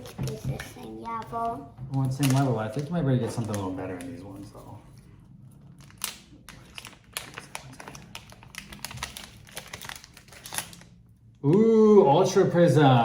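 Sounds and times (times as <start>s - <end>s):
plastic and foil packaging crackling: 0.0s - 11.0s.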